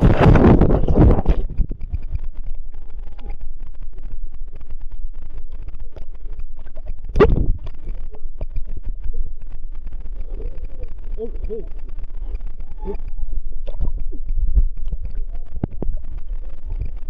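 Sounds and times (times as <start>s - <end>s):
rushing water muffled rumble: 0.0s - 17.0s.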